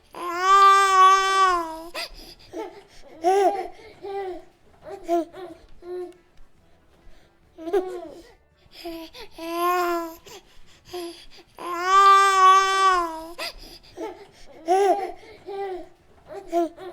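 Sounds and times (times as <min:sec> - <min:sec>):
baby cooing and babbling: 0:00.1 - 0:06.2, 0:07.6 - 0:10.4, 0:11.0 - 0:16.9.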